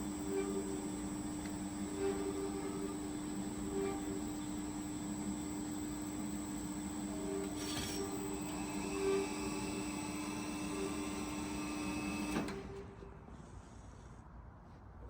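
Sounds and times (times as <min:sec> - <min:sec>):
band saw humming and whining: 0:00.0 - 0:12.4.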